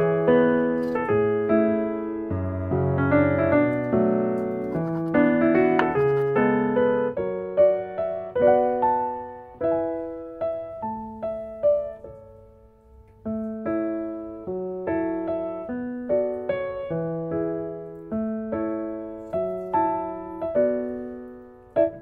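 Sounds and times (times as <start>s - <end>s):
slow piano melody: 0.0s - 22.0s.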